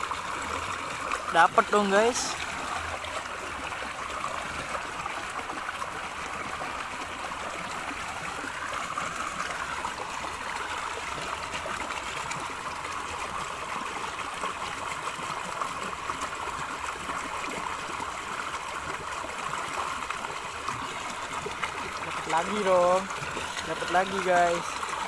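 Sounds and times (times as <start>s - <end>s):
river gurgling over shallows: 0.0s - 25.0s.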